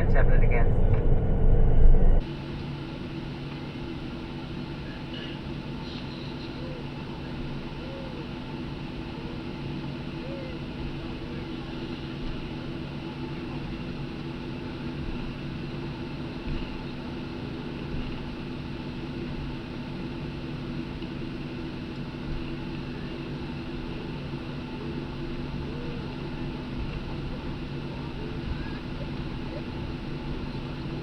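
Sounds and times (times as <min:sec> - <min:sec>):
cabin air: 0:00.0 - 0:31.0
constant low tones: 0:00.0 - 0:31.0
jet engines idling: 0:00.0 - 0:31.0.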